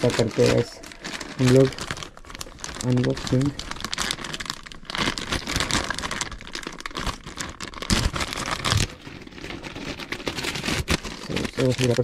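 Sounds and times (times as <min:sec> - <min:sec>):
plastic mailer bag tearing and crinkling: 0:00.0 - 0:12.0.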